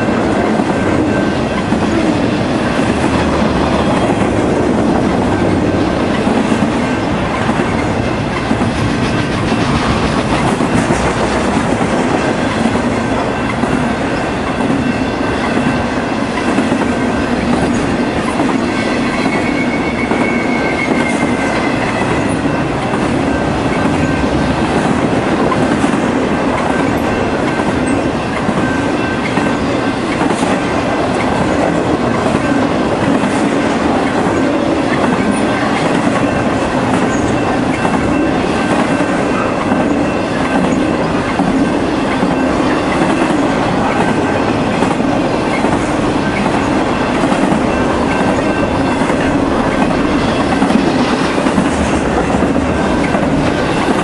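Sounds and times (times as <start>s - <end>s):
train wheels rumbling and clacking: 0.0s - 54.0s.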